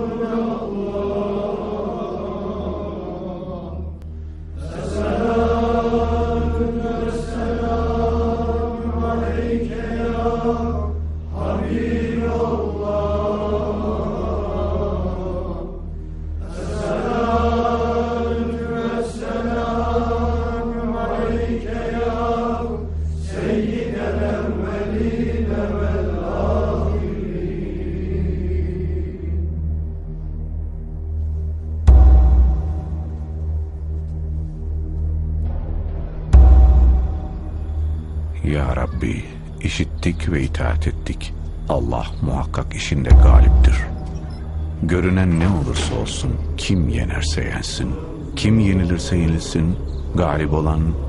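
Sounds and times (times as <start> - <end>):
men chanting in unison: 0.0 - 29.6, 37.9 - 51.0
steady low hum: 0.0 - 51.0.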